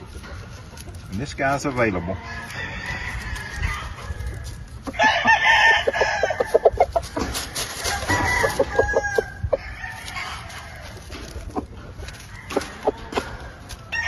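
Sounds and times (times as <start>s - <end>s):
roosters crowing: 1.2s - 14.0s
rooster clucks: 1.8s - 14.0s.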